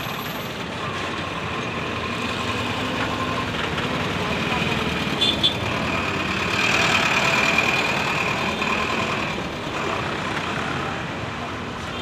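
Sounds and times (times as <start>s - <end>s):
bus driving past: 0.0s - 11.9s.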